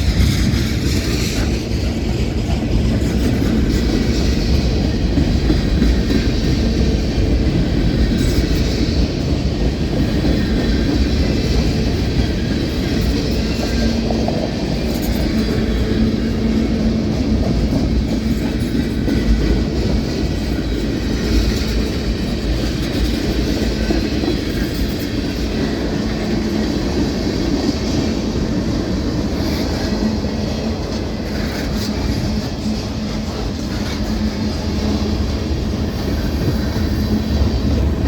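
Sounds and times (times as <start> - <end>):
freight cars rolling on rails: 0.0 - 38.0.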